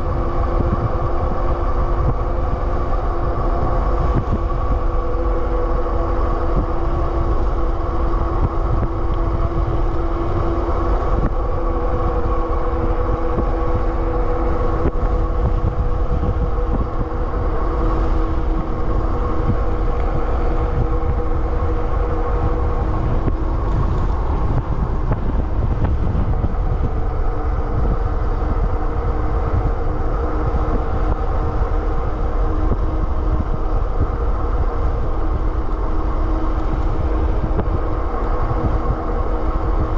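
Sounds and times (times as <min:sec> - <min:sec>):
electric bike motor whine: 0:00.0 - 0:39.9
wind rumble on microphone: 0:00.0 - 0:39.9.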